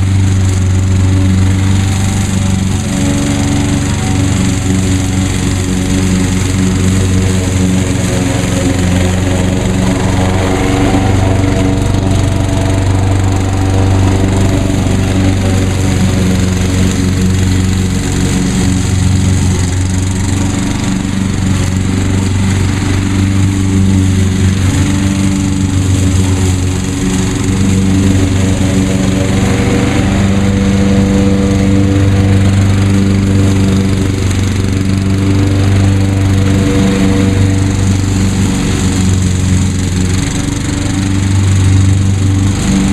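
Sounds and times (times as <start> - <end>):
lawn mower engine cutting grass: 0.0 - 42.9.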